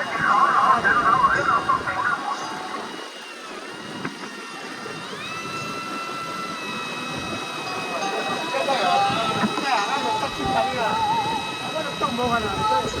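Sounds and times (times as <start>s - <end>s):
motor whining: 0.0s - 13.0s.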